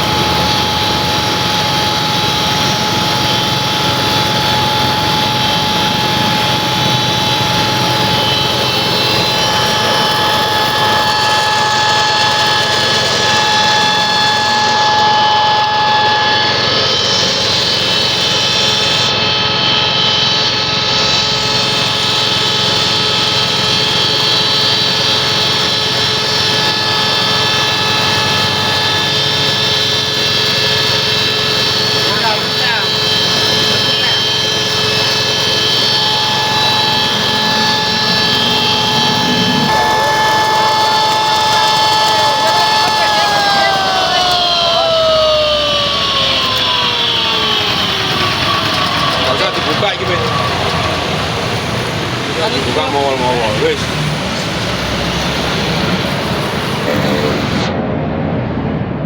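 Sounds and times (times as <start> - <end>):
coffee mill grinding with whine: 0.0 - 53.7.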